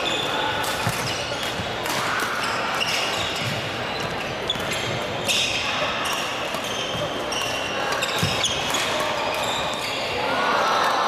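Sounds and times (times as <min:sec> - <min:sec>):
shoes squeaking on floor: 0:00.0 - 0:01.7, 0:02.4 - 0:10.2
rackets striking shuttlecock: 0:00.2 - 0:09.8.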